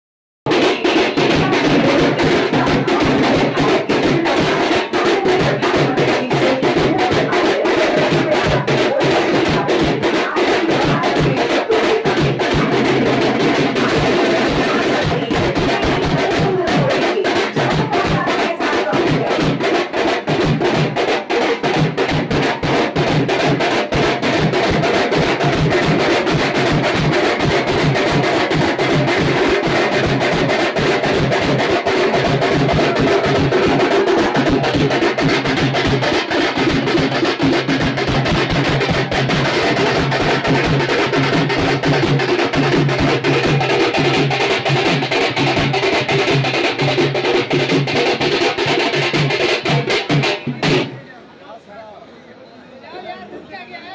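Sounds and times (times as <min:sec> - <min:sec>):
loud music with fast drumming: 0:00.5 - 0:51.0.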